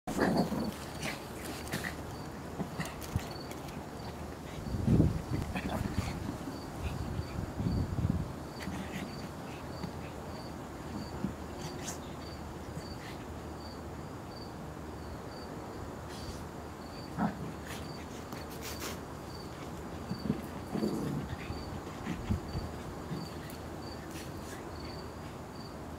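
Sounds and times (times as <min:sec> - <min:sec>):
high insect-like chirp: 0:00.2 - 0:25.8.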